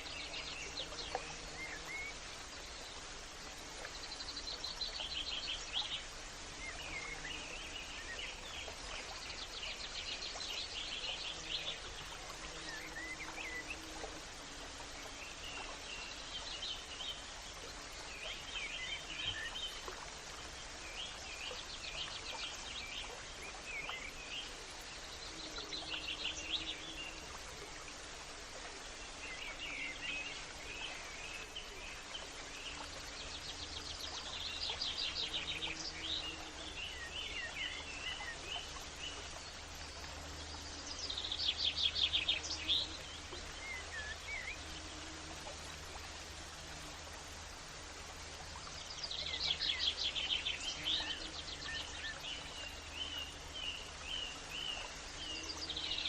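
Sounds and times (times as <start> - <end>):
songbirds singing: 0.0 - 47.5, 48.3 - 56.0
outdoor ambience hiss: 0.0 - 56.0.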